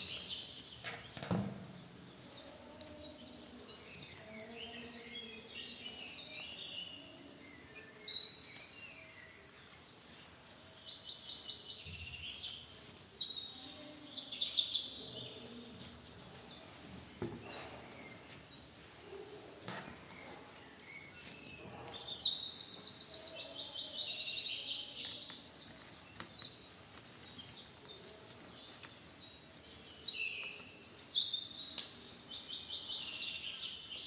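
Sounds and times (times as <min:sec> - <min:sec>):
birds chirping and singing: 0:00.0 - 0:34.0.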